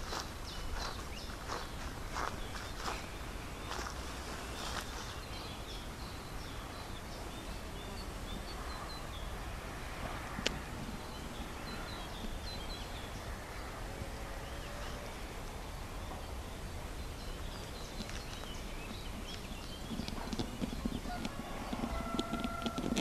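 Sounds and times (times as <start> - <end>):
low background noise: 0.0 - 23.0
songbirds chirping and singing: 0.0 - 23.0.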